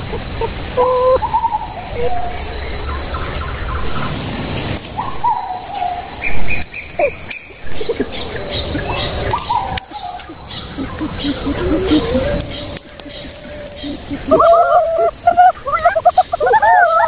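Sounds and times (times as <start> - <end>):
birds whistling: 0.0 - 17.0
high insect drone: 0.0 - 17.0
insect chirp: 0.0 - 17.0.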